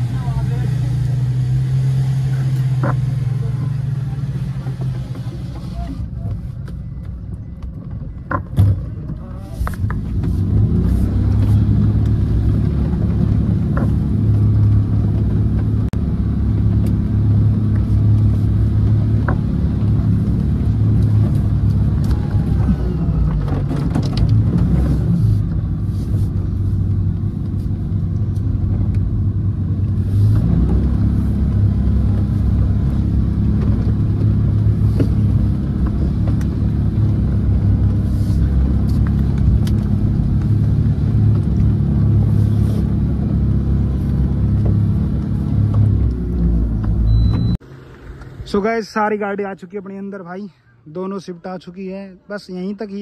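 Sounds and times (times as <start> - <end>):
engine running under load: 0.0 - 49.4.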